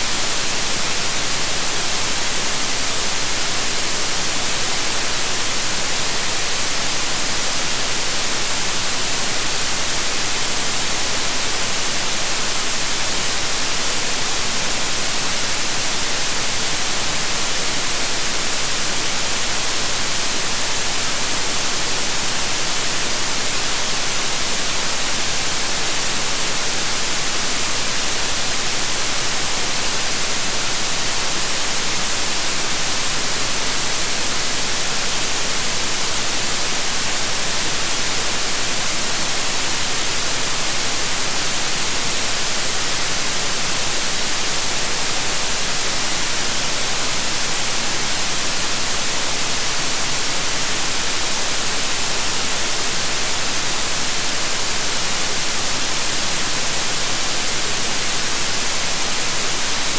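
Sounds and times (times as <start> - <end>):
steady white noise: 0.0 - 59.9.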